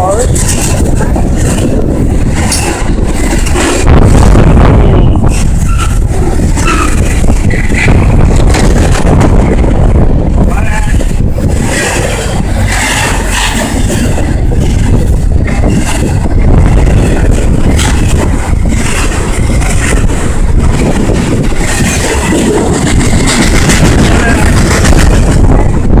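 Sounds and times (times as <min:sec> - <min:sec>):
train wheels clacking: 0:00.0 - 0:09.8, 0:10.6 - 0:26.0
freight train wheels rumbling: 0:00.0 - 0:26.0.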